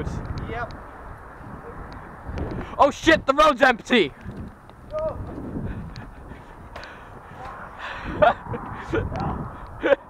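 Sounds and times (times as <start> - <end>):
bicycle tyre rumble: 0.0 - 10.0
wind buffeting microphone: 0.0 - 10.0.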